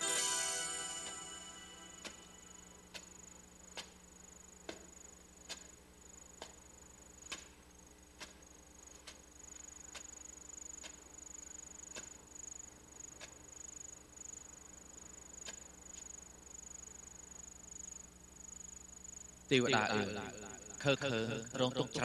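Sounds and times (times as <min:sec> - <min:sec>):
crickets trilling: 0:00.2 - 0:22.0.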